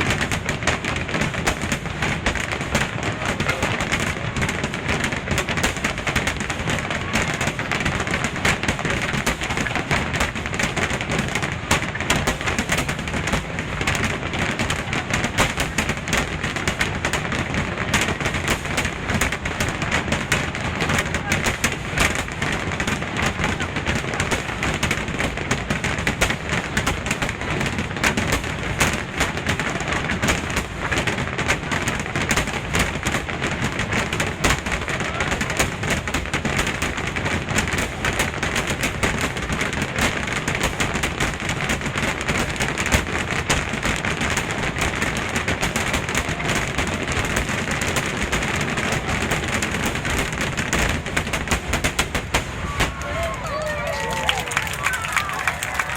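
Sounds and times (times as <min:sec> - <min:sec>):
fireworks barrage crackling: 0:00.0 - 0:55.9.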